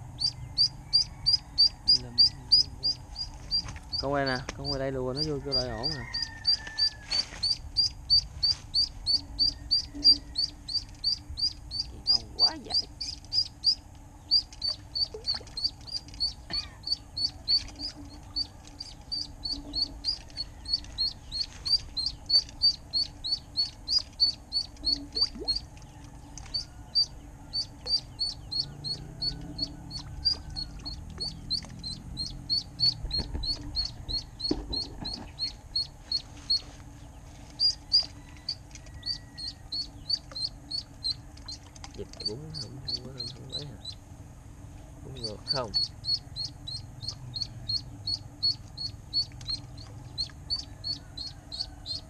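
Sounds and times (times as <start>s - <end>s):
duckling peeping: 0.0s - 44.0s, 45.1s - 52.0s.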